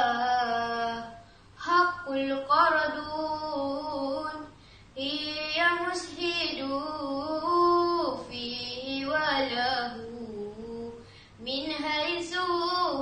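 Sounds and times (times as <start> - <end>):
girl chanting religious verse: 0.0 - 13.0.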